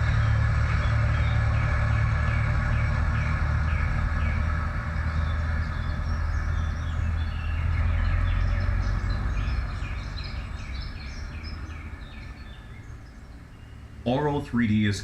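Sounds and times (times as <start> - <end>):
birds chirping: 0.0 - 15.0
vehicle passing: 0.0 - 15.0.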